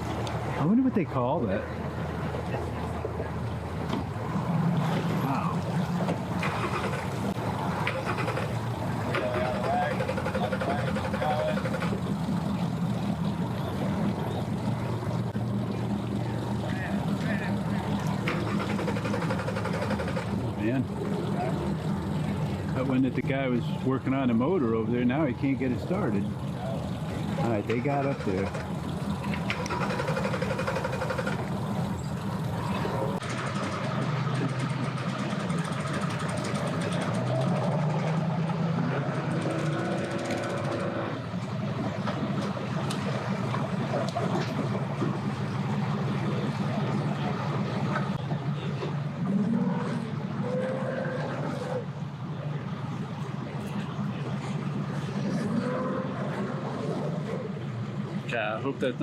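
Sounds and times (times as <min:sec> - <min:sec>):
engines idling: 0:00.0 - 0:59.0
faint voices: 0:00.4 - 0:05.9, 0:07.9 - 0:28.8, 0:33.9 - 0:59.0.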